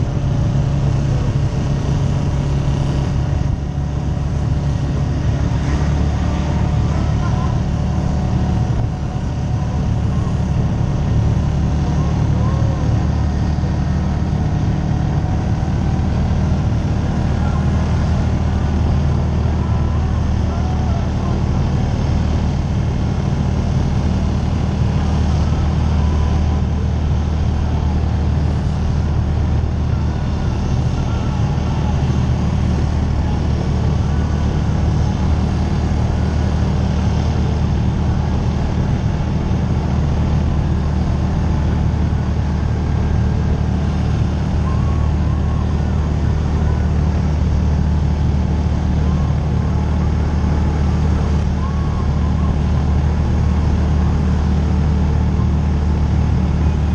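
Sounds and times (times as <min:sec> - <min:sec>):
vehicle engine droning: 0:00.0 - 0:56.9.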